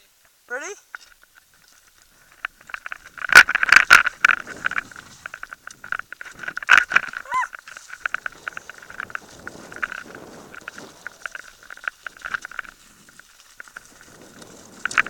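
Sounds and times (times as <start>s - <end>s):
mountain bike rattling: 0.9s - 15.0s
bike knocking on bumps: 1.1s - 15.0s.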